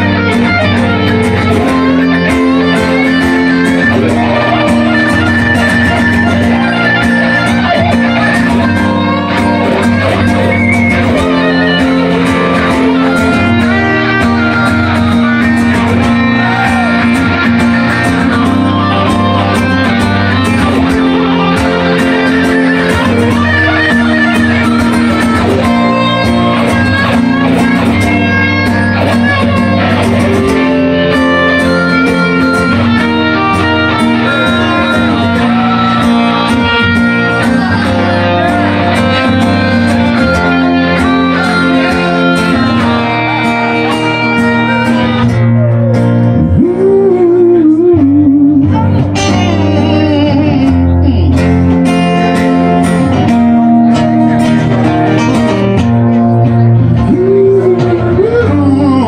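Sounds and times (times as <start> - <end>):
acoustic guitars playing: 0.0 - 59.0.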